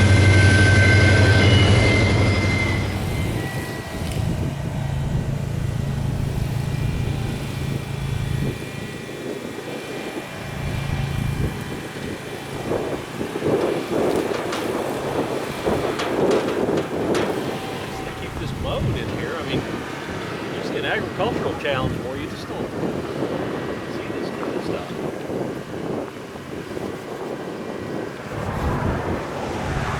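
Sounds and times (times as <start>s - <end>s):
high wheel squeal: 0.0s - 28.2s
diesel locomotive engine hum: 0.0s - 29.9s
low engine drone: 0.0s - 29.9s.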